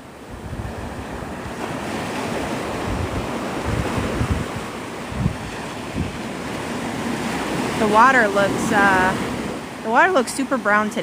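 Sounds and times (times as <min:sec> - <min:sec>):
surf washing onto beach: 0:00.0 - 0:11.0
wind gusting on microphone: 0:00.0 - 0:11.0.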